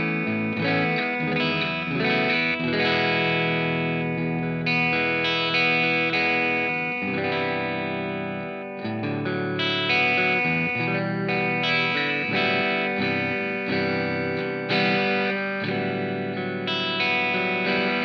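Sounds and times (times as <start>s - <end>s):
electric guitar chords strummed: 0.0s - 18.0s.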